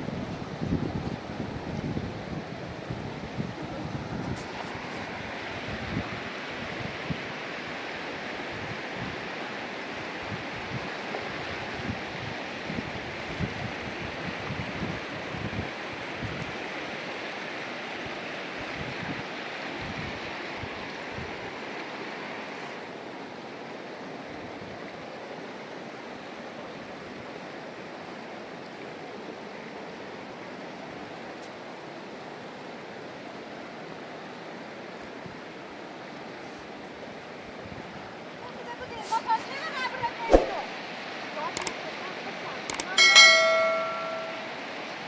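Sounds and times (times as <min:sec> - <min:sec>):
rushing river rapids: 0:00.3 - 0:45.0.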